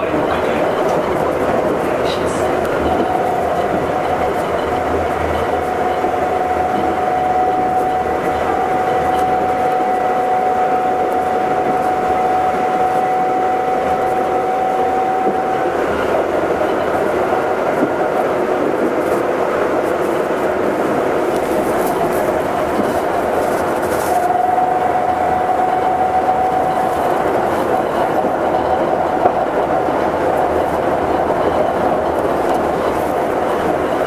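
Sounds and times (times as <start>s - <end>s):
train tyre running noise: 0.0s - 34.0s.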